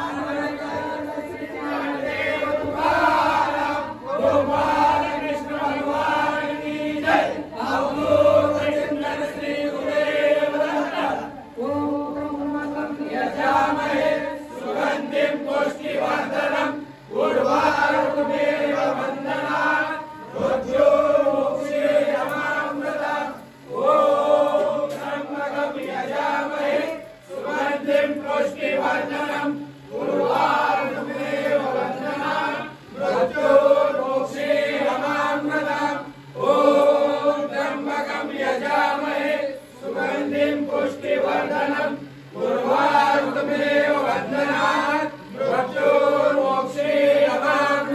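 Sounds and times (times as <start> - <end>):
men chanting a hymn: 0.0 - 47.9.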